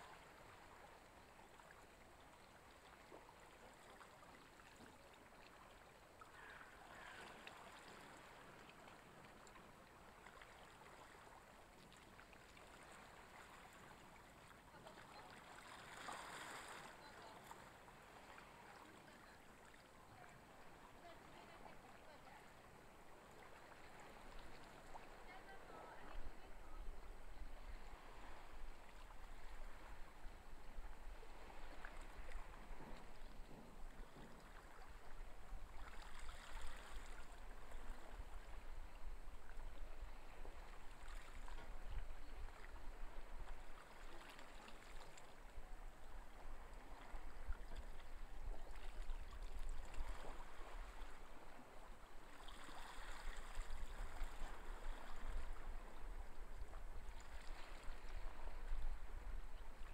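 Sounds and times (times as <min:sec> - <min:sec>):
rush of water: 0:00.0 - 0:59.9.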